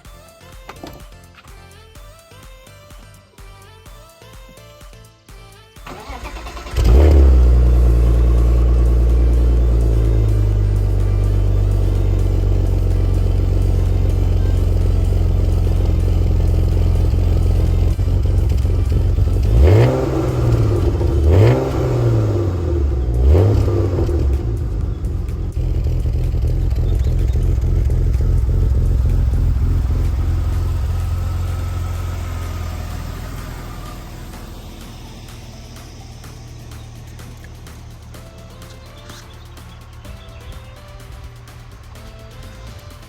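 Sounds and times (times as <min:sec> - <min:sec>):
car engine revving: 0:05.9 - 0:43.0.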